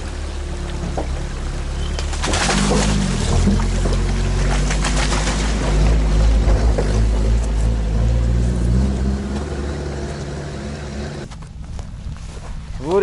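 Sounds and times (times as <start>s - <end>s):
all-terrain vehicle engine running: 0.0s - 12.0s.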